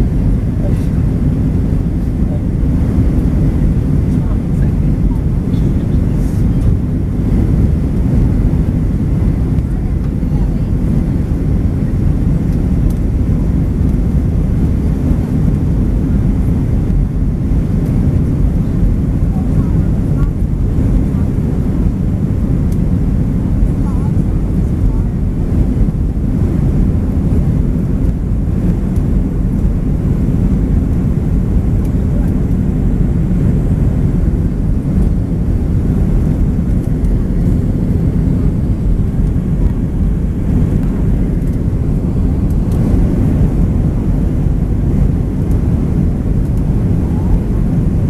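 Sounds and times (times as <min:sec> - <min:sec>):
jet engines and airflow rumble: 0:00.0 - 0:48.0.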